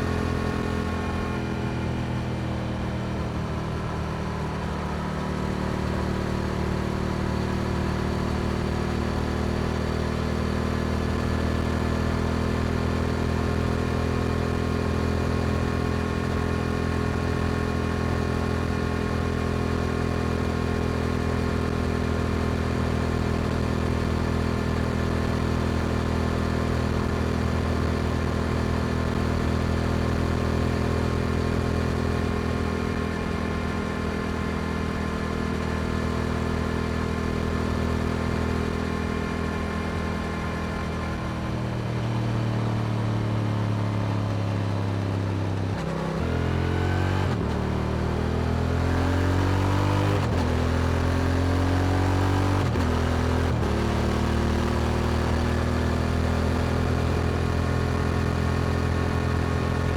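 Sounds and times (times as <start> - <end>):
motorcycle engine with upshifts: 0.0 - 59.9.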